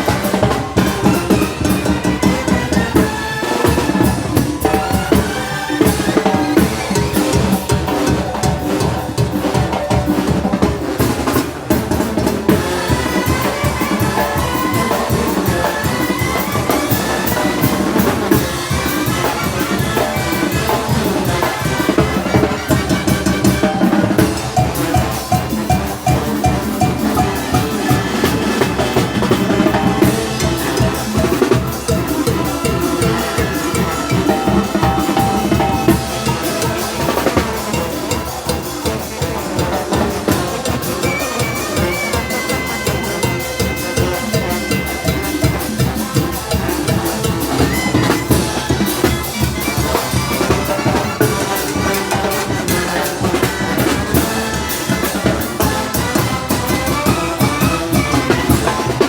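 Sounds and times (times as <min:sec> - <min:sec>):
bass drum and snare beat: 0:00.0 - 0:59.0
brass band playing: 0:00.0 - 0:59.0.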